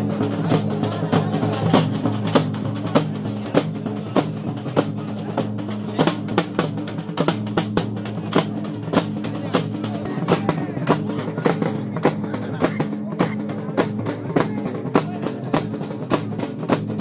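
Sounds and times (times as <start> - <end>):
barrel drums beaten with sticks: 0.0 - 17.0.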